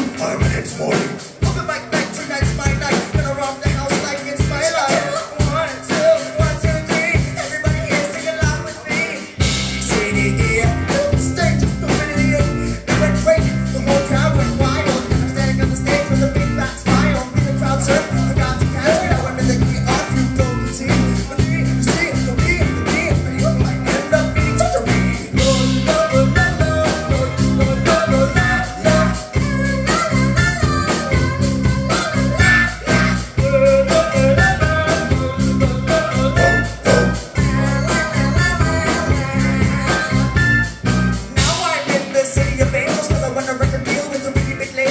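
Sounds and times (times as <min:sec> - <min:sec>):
man singing: 0:00.0 - 0:40.5, 0:41.3 - 0:44.9
bass guitar: 0:00.0 - 0:44.9
drum kit beat: 0:00.0 - 0:44.9.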